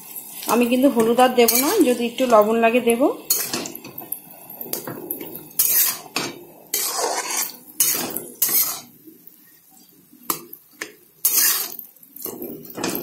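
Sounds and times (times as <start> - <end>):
spatula scraping frying pan: 0.0 - 2.6, 3.3 - 9.4, 10.3 - 13.0.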